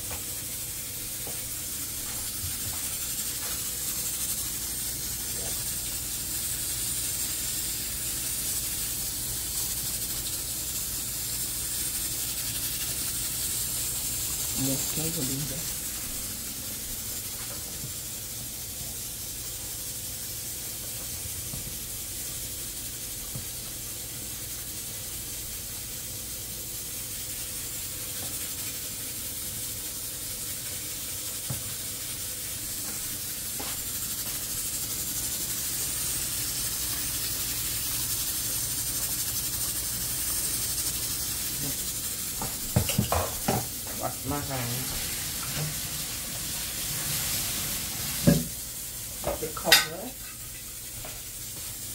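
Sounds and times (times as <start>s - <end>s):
chicken deep-frying in oil: 0.0s - 51.9s.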